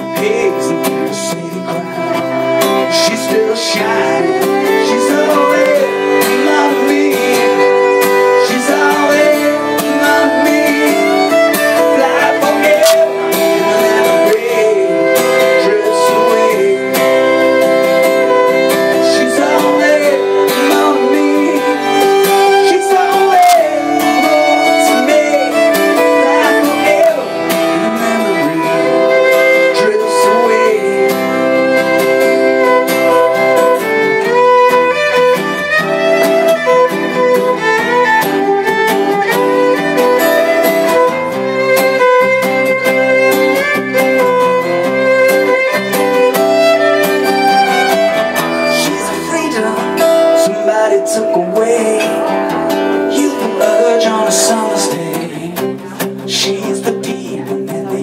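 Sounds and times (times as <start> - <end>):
fiddle melody: 0.0 - 58.0
strummed acoustic guitar: 0.0 - 58.0.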